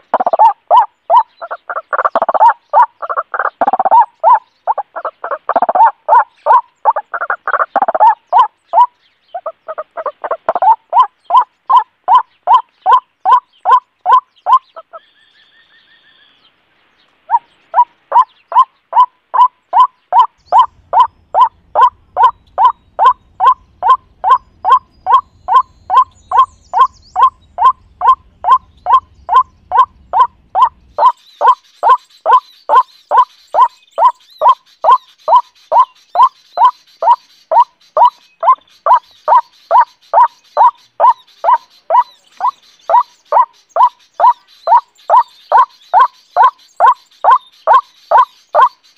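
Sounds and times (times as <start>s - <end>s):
waterhen calling: 0.0s - 16.2s, 17.2s - 48.9s.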